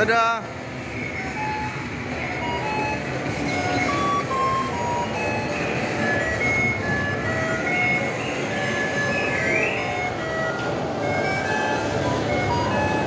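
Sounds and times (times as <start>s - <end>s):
steady noisy rumble: 0.0s - 13.0s
electronic jingle of beeping notes: 1.2s - 13.0s.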